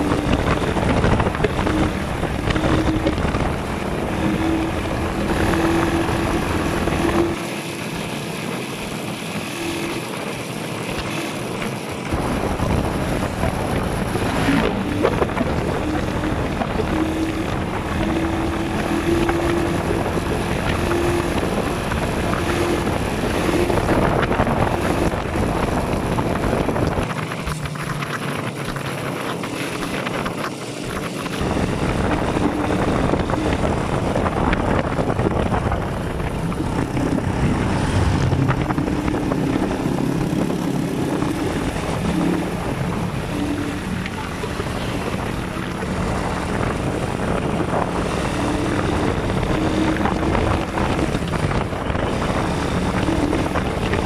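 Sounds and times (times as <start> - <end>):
vehicle engine running: 0.0 - 54.0
wind rushing over microphone: 0.0 - 54.0.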